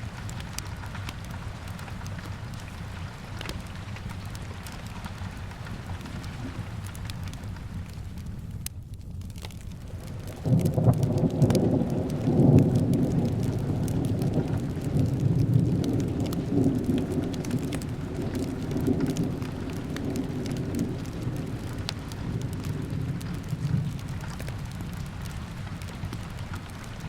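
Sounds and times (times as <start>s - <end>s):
low rumble of thunder: 0.0s - 27.0s
steady rain: 0.0s - 27.0s
wood fire crackling: 0.0s - 27.0s.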